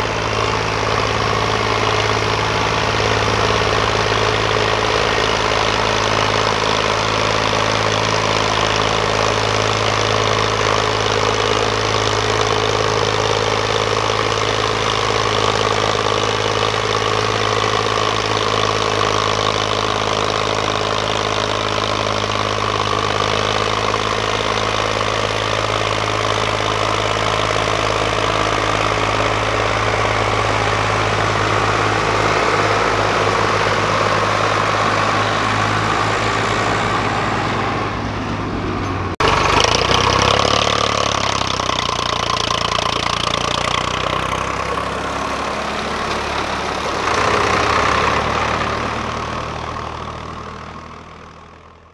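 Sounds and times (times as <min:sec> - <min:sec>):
tractor diesel engines: 0:00.0 - 0:51.9.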